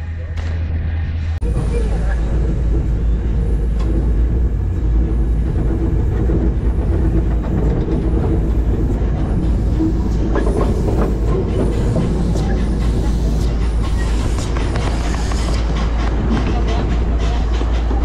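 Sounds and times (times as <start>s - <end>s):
ride train rumbling on track: 0.0s - 18.0s.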